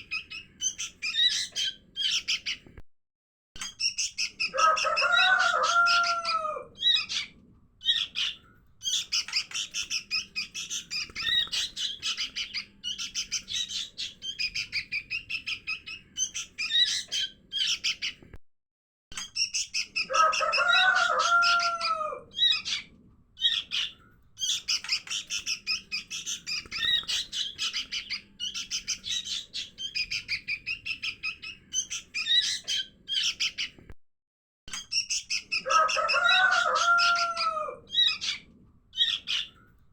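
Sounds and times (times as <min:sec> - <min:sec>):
bulbuls chirping rapidly: 0:00.0 - 0:02.6, 0:03.6 - 0:18.2, 0:19.2 - 0:33.8, 0:34.7 - 0:39.6.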